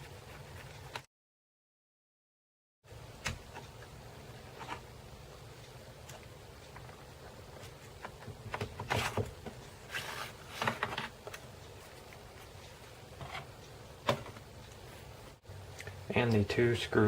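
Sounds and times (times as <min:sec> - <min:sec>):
faint steady hum: 0:02.9 - 0:17.0.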